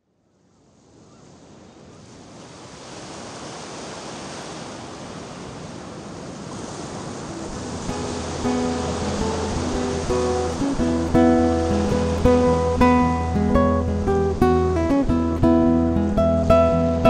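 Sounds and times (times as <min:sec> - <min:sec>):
ocean surf washing on beach: 0:00.3 - 0:17.0.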